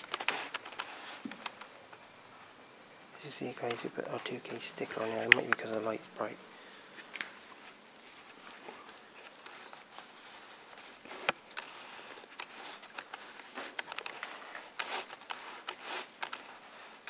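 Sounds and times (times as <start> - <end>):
handling clicks and rustles: 0.0 - 2.2, 3.2 - 6.4, 7.0 - 17.0.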